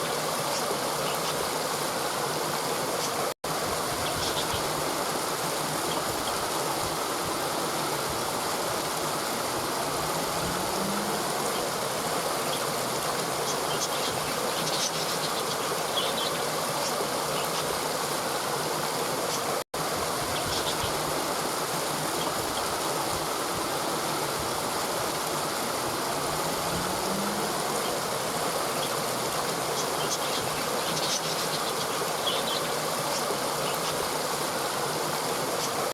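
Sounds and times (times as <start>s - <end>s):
river flowing over rocks: 0.0s - 35.9s.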